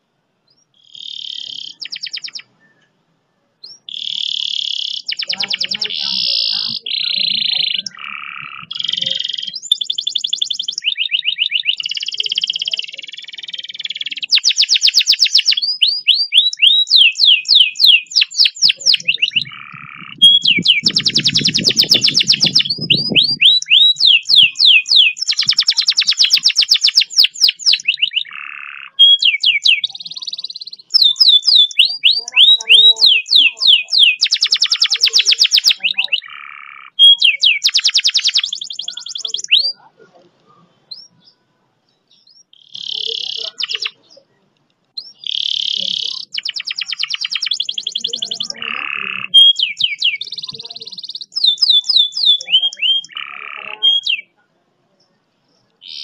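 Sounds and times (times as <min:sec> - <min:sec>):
canary singing: 0:00.0 - 0:03.0, 0:03.6 - 0:56.0.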